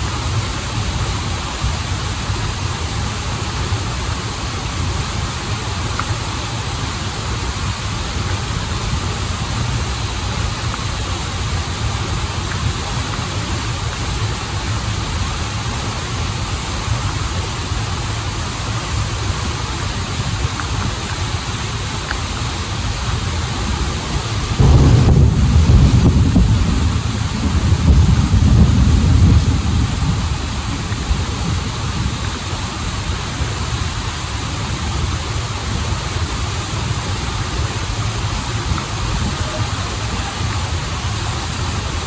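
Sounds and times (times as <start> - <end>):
waterfall and stream rushing: 0.0 - 42.0.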